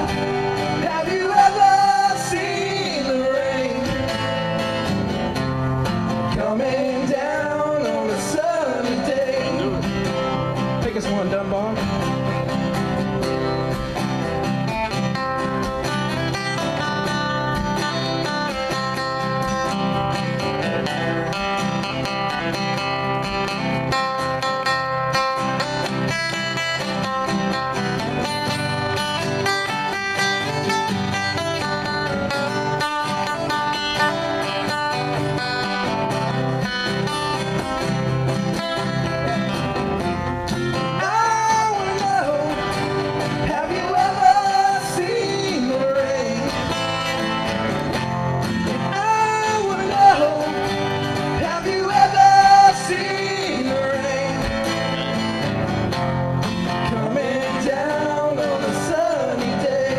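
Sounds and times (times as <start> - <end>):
country rock band playing: 0.0 - 59.9
strummed guitar: 0.0 - 59.9.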